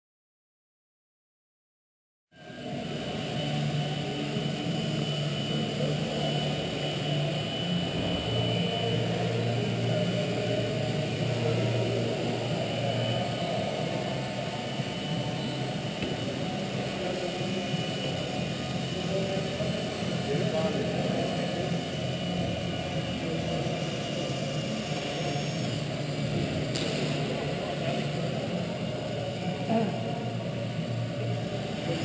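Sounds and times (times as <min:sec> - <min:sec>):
model helicopter rotor drone: 0:02.4 - 0:32.0
thin high whine: 0:02.4 - 0:32.0.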